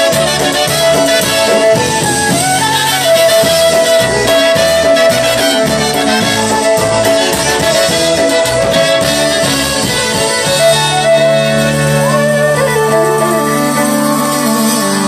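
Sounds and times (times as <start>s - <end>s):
accordion: 0.0s - 15.0s
fiddle: 0.0s - 15.0s
steady bass beat: 0.0s - 15.0s
trumpets holding notes: 0.0s - 15.0s.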